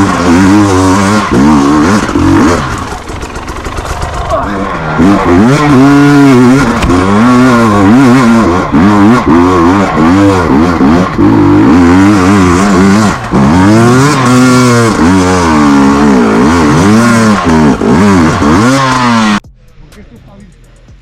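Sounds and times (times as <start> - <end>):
motorcycle engine revving: 0.0 - 19.5.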